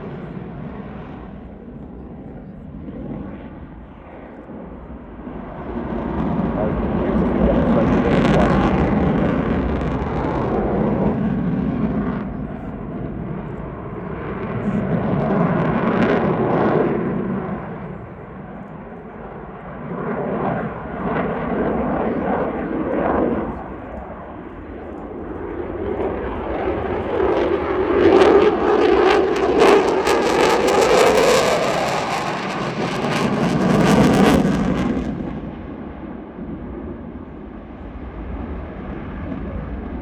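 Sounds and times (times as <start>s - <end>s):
fighter jet roar: 4.7s - 18.5s, 19.4s - 40.0s.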